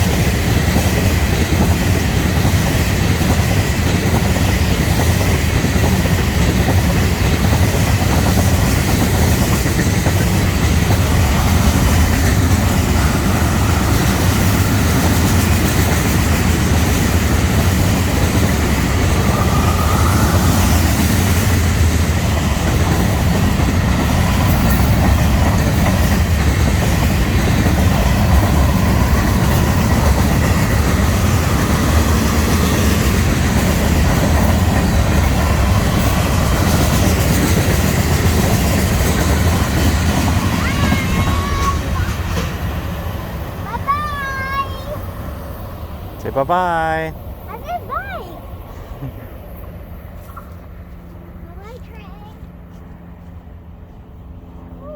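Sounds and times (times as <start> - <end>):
clickety-clack of train cars: 0.0 - 47.2, 47.9 - 54.7
train wheels rumbling on rail: 0.0 - 54.8.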